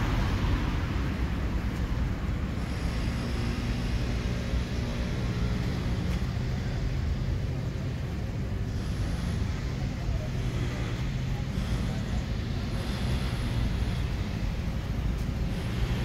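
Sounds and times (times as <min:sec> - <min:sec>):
city road traffic hum: 0:00.0 - 0:16.0.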